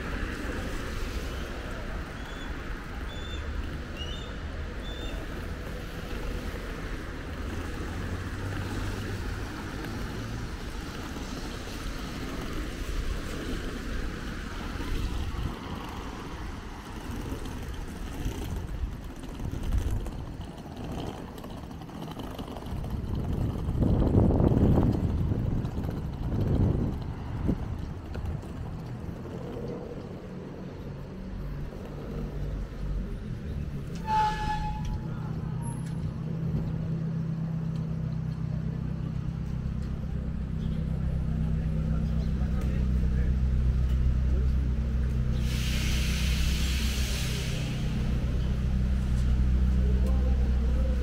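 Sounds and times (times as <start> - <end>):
city traffic rumble: 0.0 - 51.0.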